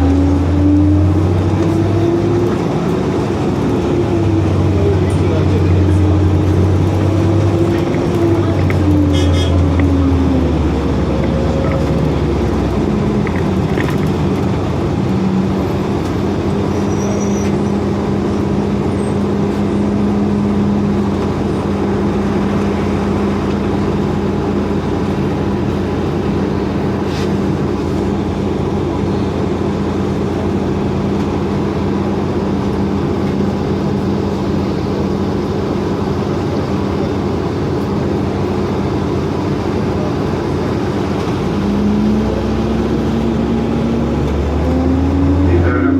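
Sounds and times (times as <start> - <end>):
bus drivetrain hum: 0.0 - 45.9
road noise: 0.0 - 45.9.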